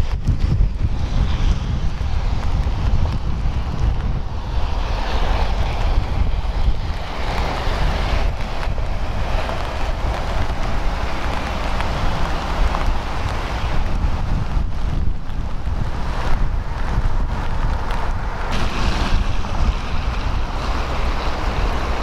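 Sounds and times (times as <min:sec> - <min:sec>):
steady rushing noise: 0:00.0 - 0:22.0
wind buffeting microphone: 0:00.0 - 0:22.0.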